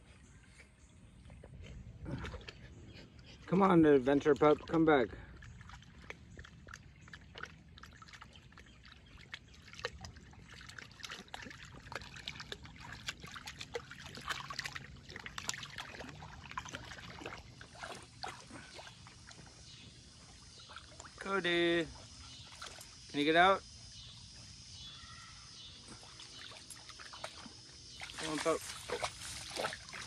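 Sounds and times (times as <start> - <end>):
dog wading through shallow water: 0.3 - 24.8, 25.5 - 30.0.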